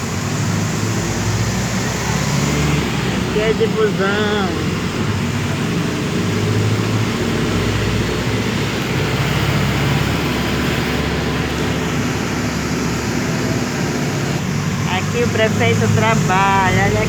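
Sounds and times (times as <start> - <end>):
bus engine hum: 0.0 - 17.0
road noise: 0.0 - 17.0.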